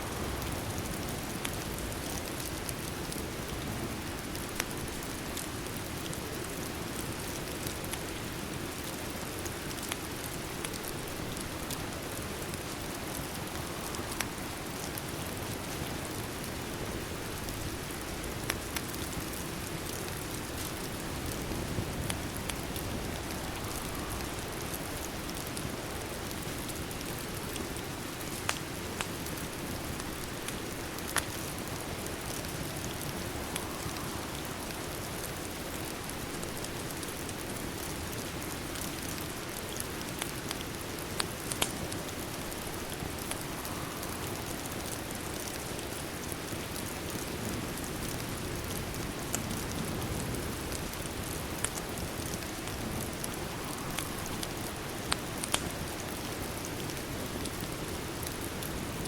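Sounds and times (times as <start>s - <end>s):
fireplace crackles: 0.0s - 59.0s
steady rain: 0.0s - 59.0s.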